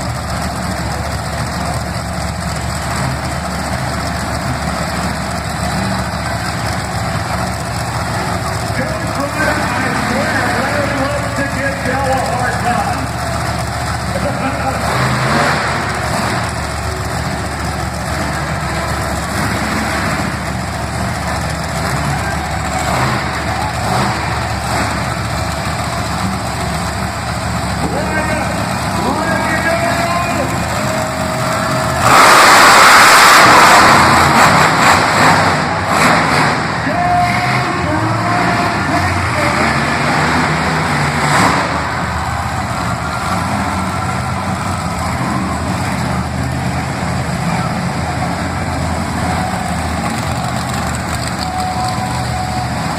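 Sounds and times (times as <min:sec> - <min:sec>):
truck engine at low revs: 0:00.0 - 0:52.9.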